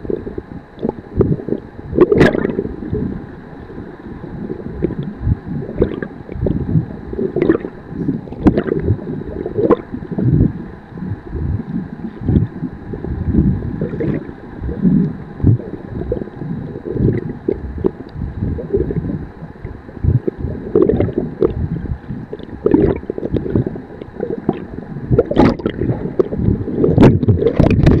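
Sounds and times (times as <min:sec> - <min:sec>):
muffled underwater sloshing: 0:00.0 - 0:28.0.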